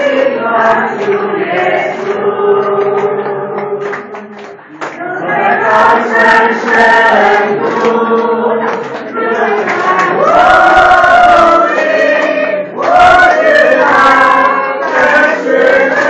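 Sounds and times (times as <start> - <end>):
group singing a hymn: 0.0 - 16.0
hand-clapping: 0.0 - 16.0.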